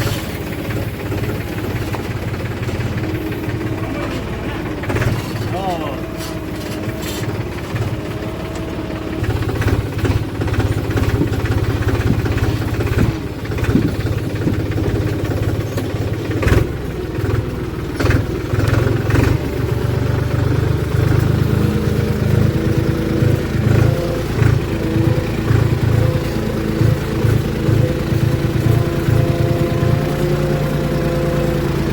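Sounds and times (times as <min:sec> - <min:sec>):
backhoe diesel engine running: 0:00.0 - 0:31.9.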